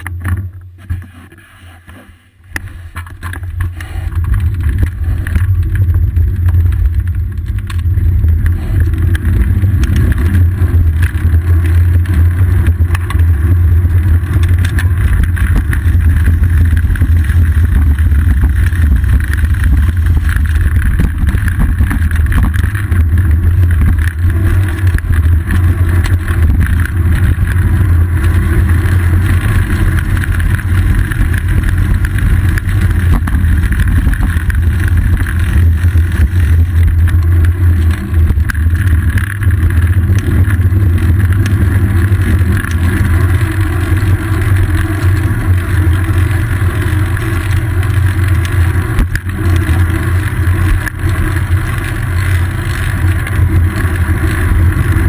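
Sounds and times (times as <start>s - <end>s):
bicycle rolling over pavement: 0.0s - 1.2s, 2.4s - 55.0s
wind noise on camera: 0.0s - 55.0s.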